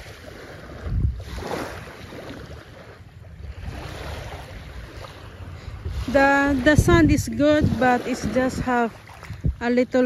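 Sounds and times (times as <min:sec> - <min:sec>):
small waves lapping on sand: 0:00.0 - 0:10.0
wind buffeting microphone: 0:00.0 - 0:10.0.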